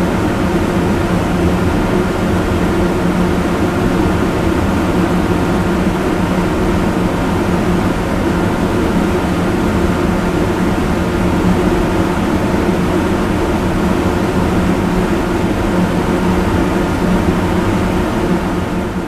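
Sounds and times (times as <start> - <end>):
loud fan running: 0.0 - 19.0.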